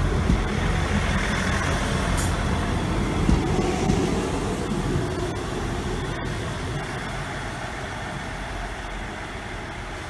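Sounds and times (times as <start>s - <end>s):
train diesel engines rumbling: 0.0s - 10.0s
train wheels rumbling: 0.0s - 10.0s.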